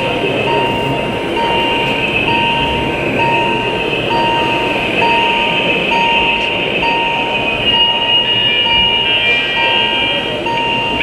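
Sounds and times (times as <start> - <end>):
background hubbub: 0.0 - 11.0
level crossing warning beeps: 0.0 - 11.0.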